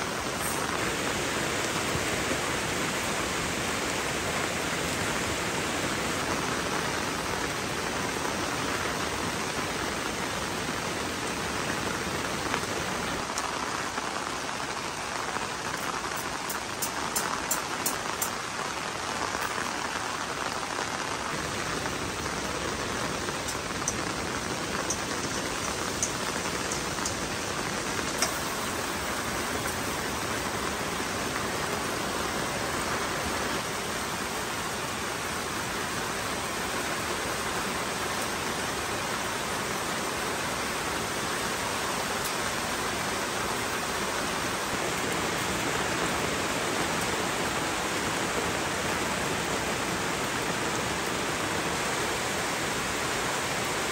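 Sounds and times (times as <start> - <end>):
rain pouring: 0.0 - 53.9.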